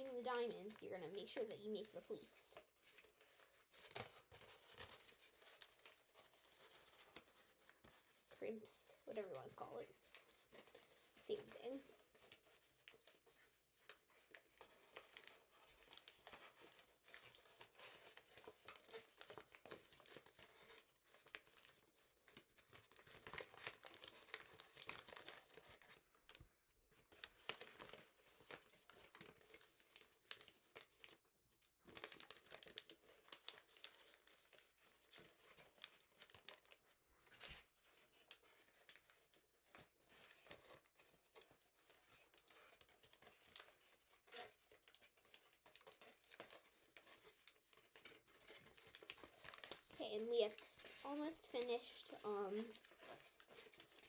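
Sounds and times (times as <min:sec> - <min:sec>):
paper crinkling and rustling: 0:00.0 - 0:54.0.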